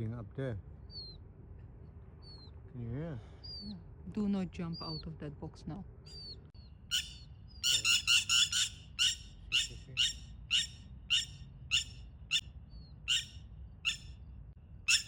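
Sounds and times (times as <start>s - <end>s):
bird chirping: 0.8s - 5.3s, 6.0s - 15.0s.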